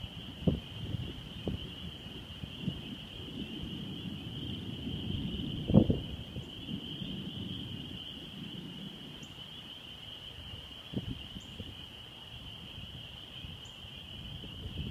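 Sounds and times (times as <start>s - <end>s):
wind buffeting microphone: 0.0s - 9.4s, 10.4s - 14.9s.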